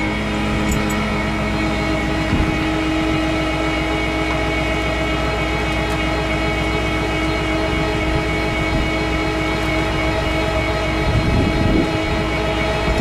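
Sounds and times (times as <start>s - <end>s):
constant winch whine: 0.0s - 13.0s
winch mechanical drone: 0.0s - 13.0s.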